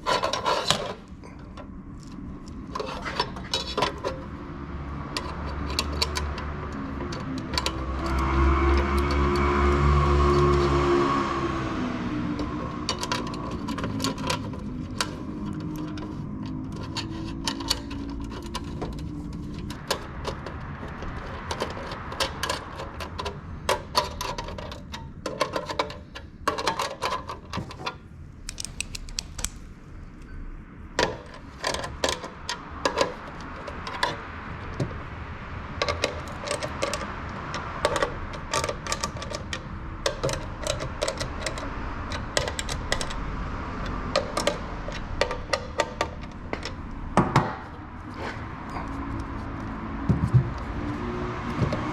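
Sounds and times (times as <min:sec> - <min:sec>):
small hard parts clicking and rattling: 0:00.0 - 0:11.5, 0:12.2 - 0:30.3, 0:31.0 - 0:51.9.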